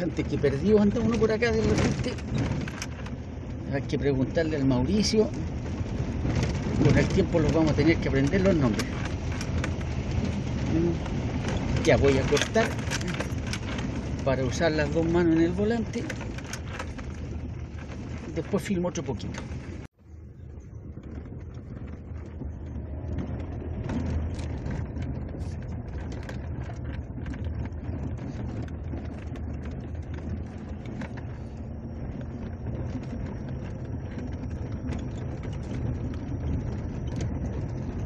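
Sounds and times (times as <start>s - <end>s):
rattles and knocks in vehicle cab: 0.0s - 20.0s, 20.6s - 38.0s
engine and tyre rumble: 0.0s - 38.0s.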